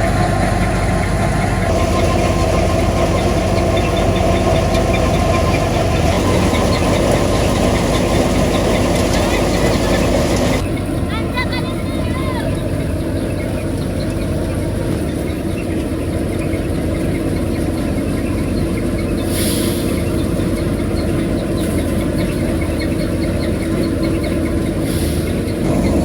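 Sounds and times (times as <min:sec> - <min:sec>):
farm machinery engine humming: 0:00.0 - 0:26.0
fine regular ticking: 0:00.0 - 0:26.0.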